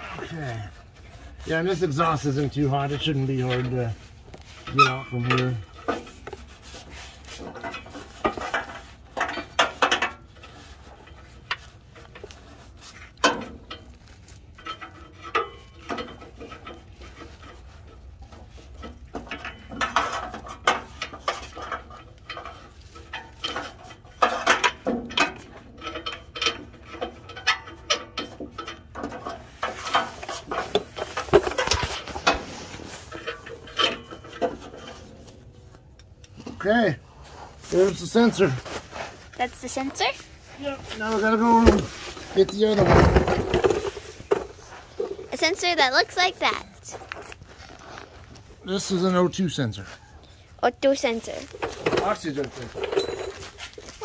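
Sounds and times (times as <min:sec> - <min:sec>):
hand tools clicking and scraping metal: 0:00.0 - 0:54.0.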